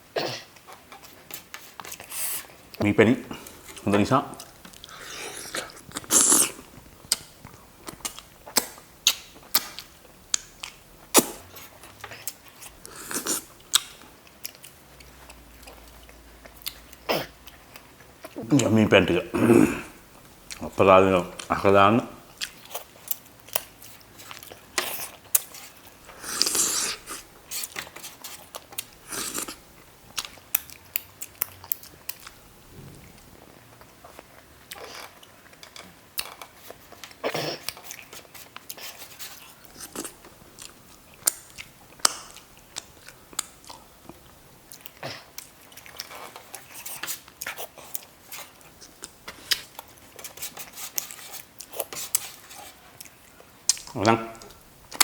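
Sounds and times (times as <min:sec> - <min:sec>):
person chewing food: 0:00.6 - 0:18.7, 0:19.6 - 0:21.6, 0:22.2 - 0:55.0.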